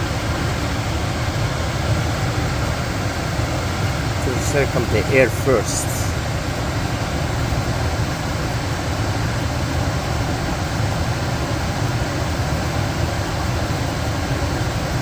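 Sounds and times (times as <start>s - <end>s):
furnace blower fan humming: 0.0s - 15.0s.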